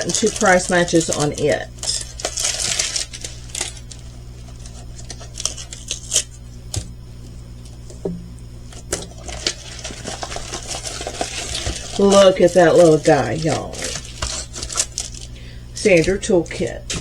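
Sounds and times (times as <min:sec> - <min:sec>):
packaging rustling: 0:00.0 - 0:06.4, 0:08.7 - 0:17.0
low steady hum: 0:00.0 - 0:17.0.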